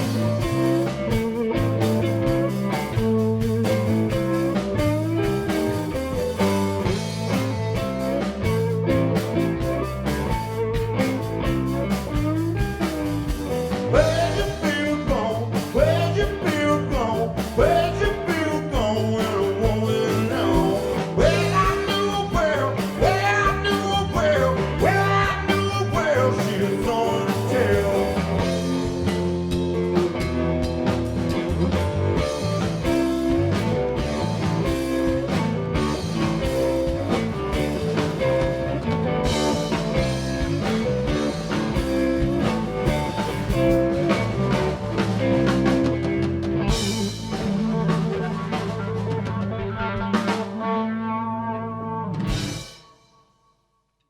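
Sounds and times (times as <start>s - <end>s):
electric guitar bending notes: 0.0s - 52.8s
blues-rock band playing live: 0.0s - 52.9s.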